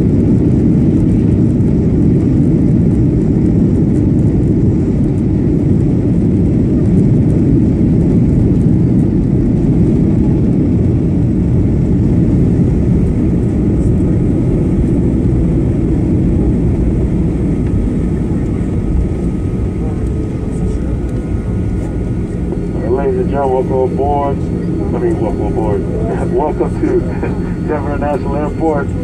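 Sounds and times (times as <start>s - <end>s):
airplane cabin rumble on landing: 0.0s - 29.0s.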